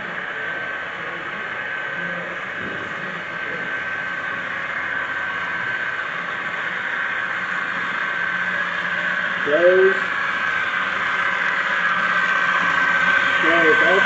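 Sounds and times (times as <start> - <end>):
model train humming: 0.0 - 14.0.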